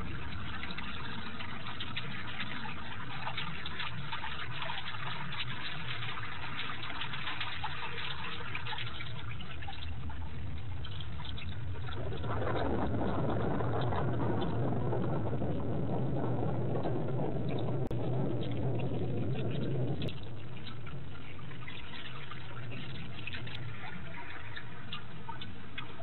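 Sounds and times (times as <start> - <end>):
rain pattering on concrete: 0.0 - 26.0
steady low rumble: 0.0 - 26.0.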